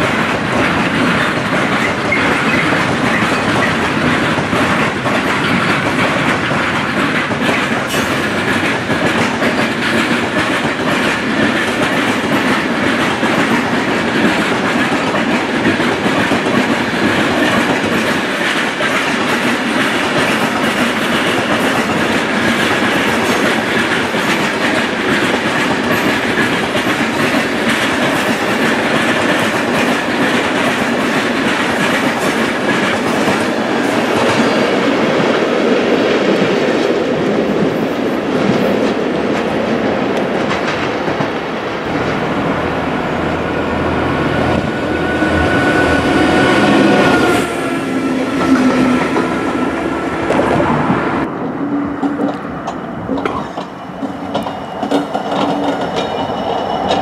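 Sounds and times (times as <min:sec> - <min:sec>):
clickety-clack over rail joints: 0:00.0 - 0:42.3, 0:50.3 - 0:57.0
train wheels rumbling on rails: 0:00.0 - 0:57.0.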